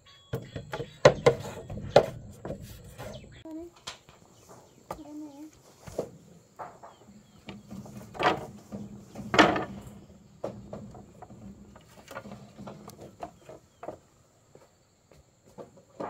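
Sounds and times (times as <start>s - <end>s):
knocks and clatters: 0.3s - 5.0s, 5.9s - 14.1s.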